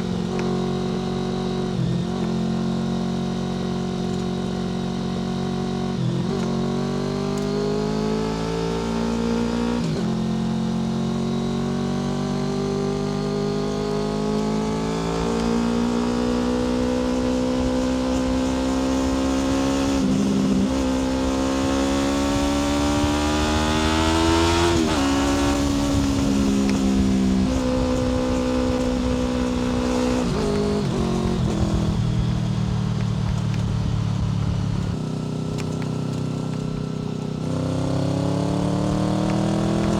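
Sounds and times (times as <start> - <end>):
motorcycle engine on the road: 0.0 - 39.9.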